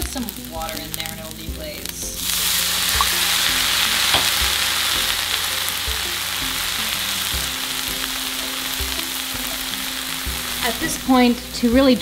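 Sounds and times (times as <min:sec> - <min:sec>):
water sizzling in a hot pan: 0:00.0 - 0:12.0.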